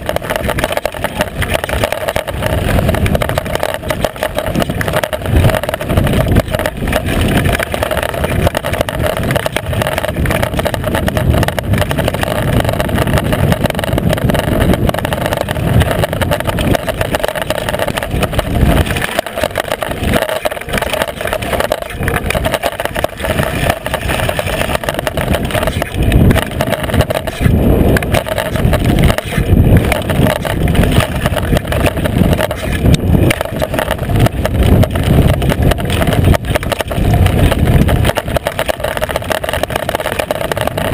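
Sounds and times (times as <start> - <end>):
bike tyres rumbling on gravel: 0.0 - 40.9
wind buffeting: 0.0 - 40.9.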